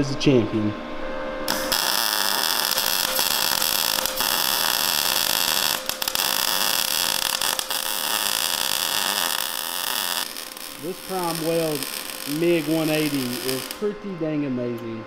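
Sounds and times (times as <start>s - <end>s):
welding arc buzzing: 1.4s - 14.1s.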